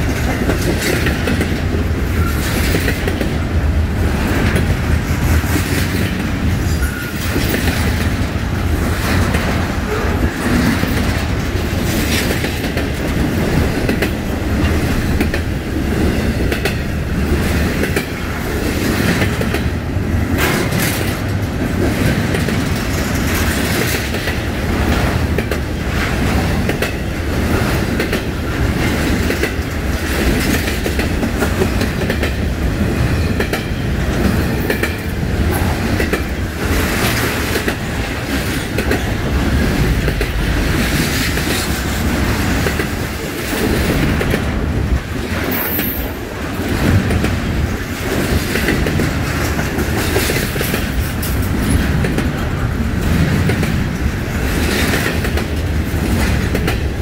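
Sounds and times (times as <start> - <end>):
freight train wheels rumbling: 0.0 - 57.0
wheels clicking over rail joints: 0.0 - 57.0.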